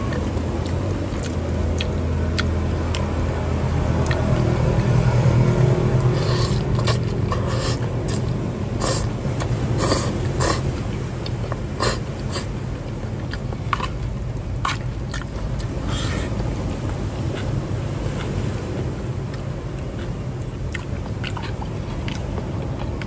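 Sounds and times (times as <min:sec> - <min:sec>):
spaghetti slurping and chewing: 0:00.0 - 0:23.0
steady low hum: 0:00.0 - 0:23.0.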